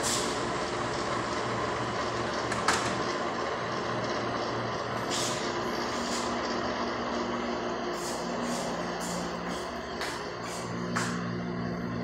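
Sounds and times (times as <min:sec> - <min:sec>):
air conditioner fan rushing: 0:00.0 - 0:12.0.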